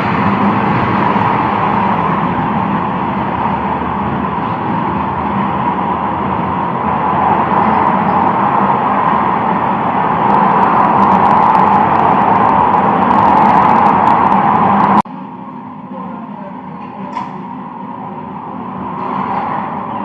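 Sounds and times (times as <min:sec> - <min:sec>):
road vehicle rushing noise: 0:00.0 - 0:15.0, 0:17.3 - 0:20.0.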